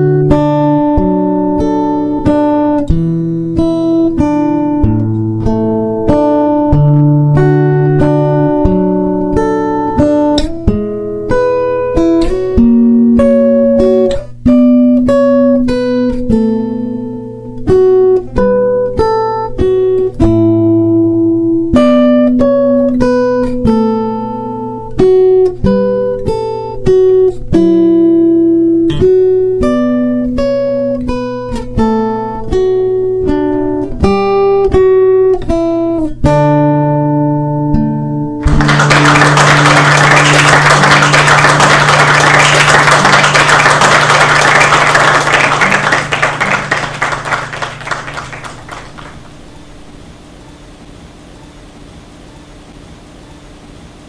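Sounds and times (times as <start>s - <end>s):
acoustic guitar melody: 0.0s - 50.2s.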